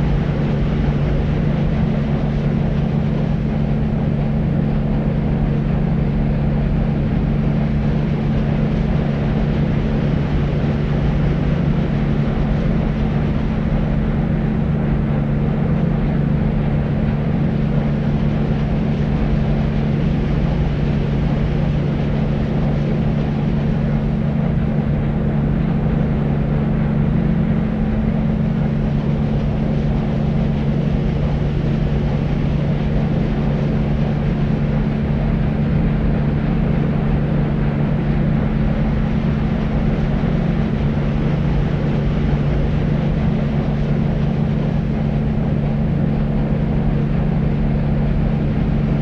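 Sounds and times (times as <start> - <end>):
deep white noise: 0.0 - 49.0.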